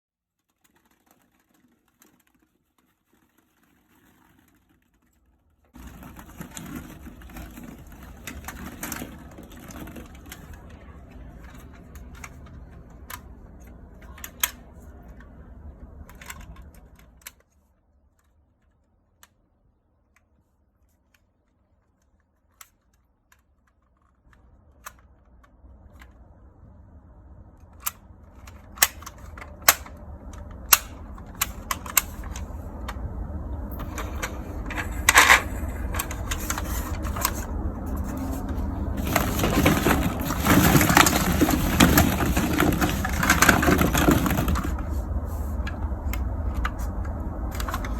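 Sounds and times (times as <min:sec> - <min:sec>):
plastic toy cars rattling: 0:00.3 - 0:19.4, 0:20.2 - 0:26.2, 0:27.6 - 0:47.9
toy cars clicking together: 0:00.4 - 0:17.6, 0:21.0 - 0:26.2, 0:27.6 - 0:33.0, 0:33.7 - 0:45.0, 0:45.6 - 0:47.9.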